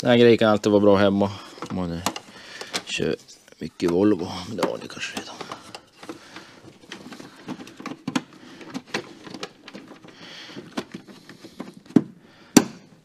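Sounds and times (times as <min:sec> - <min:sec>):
tools and car parts clicking: 0:01.5 - 0:13.0.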